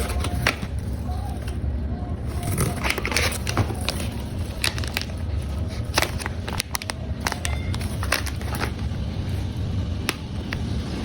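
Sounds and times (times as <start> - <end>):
packaging crinkling: 0.0 - 9.6
steady low hum: 0.0 - 11.0.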